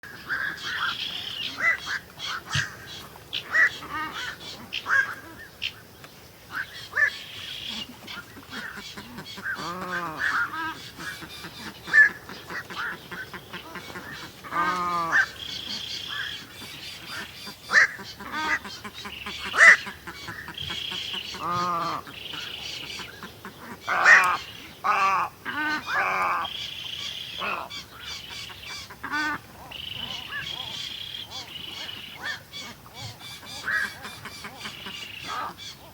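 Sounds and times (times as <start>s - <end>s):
harsh low bird calls: 0.0s - 35.9s.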